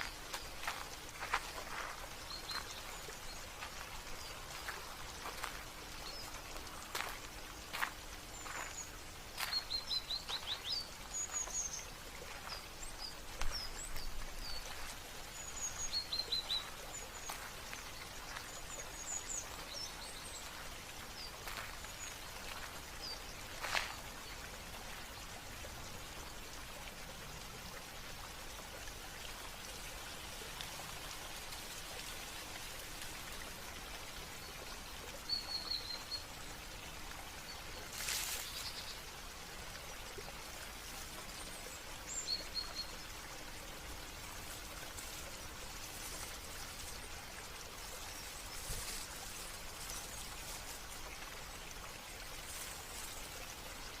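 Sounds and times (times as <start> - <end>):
running water trickling: 0.0 - 54.0
songbirds chirping: 0.0 - 54.0.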